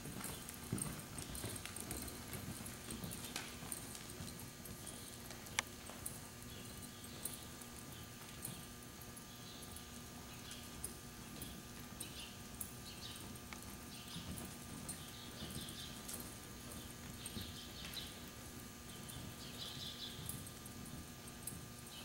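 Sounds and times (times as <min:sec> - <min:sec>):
horse hoofbeats on soft dirt: 0:00.0 - 0:22.0.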